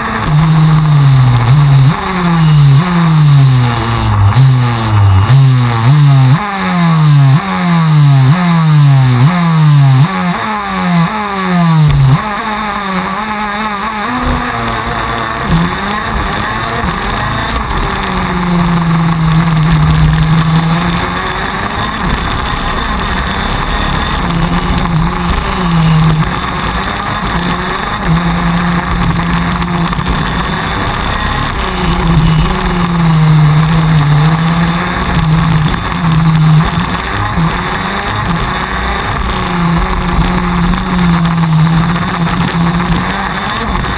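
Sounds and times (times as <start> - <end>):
kart engine revving: 0.0 - 43.9.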